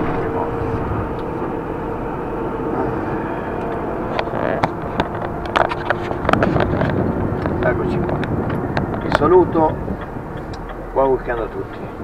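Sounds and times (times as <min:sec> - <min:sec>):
road noise: 0:00.0 - 0:12.0
truck engine hum: 0:00.0 - 0:12.0.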